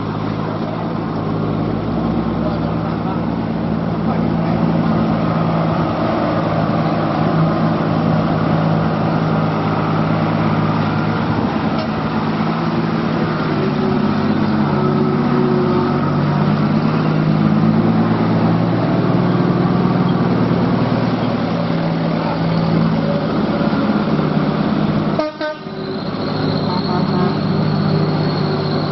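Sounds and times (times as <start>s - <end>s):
diesel truck engines droning: 0.0s - 28.9s.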